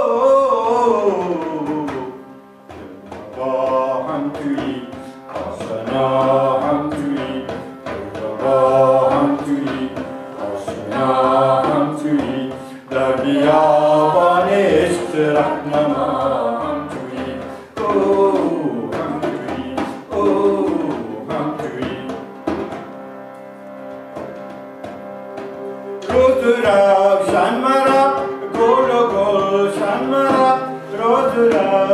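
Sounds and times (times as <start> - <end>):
people singing a chant-like melody: 0.0 - 22.3, 26.0 - 31.9
harmonium drone: 0.0 - 31.9.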